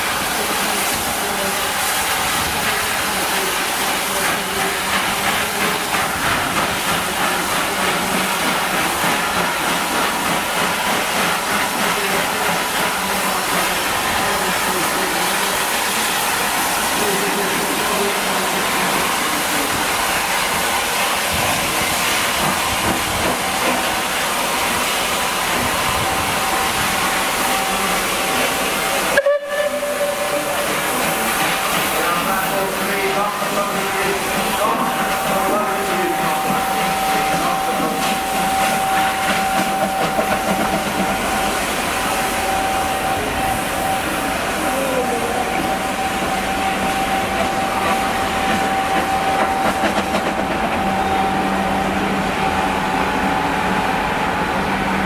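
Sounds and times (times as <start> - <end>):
steam locomotive hiss and exhaust: 0.0 - 55.0.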